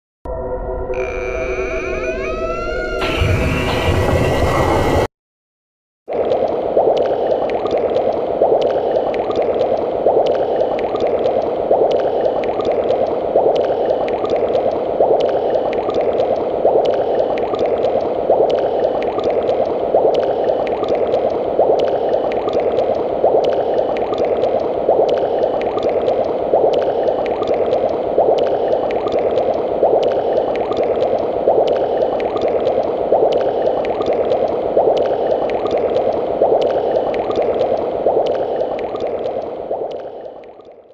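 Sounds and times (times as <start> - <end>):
thick liquid boiling and gurgling: 6.1 - 40.9.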